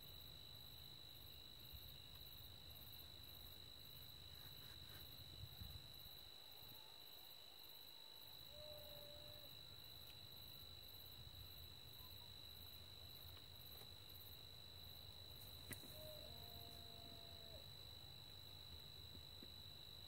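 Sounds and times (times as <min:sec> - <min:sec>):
faint insects chirping: 0:00.0 - 0:20.0.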